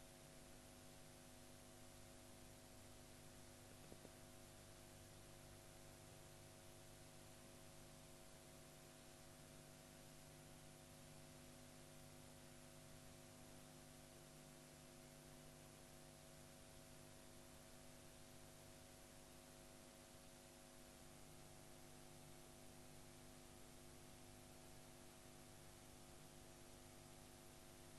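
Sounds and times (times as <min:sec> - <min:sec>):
faint electrical hum: 0:00.0 - 0:27.9.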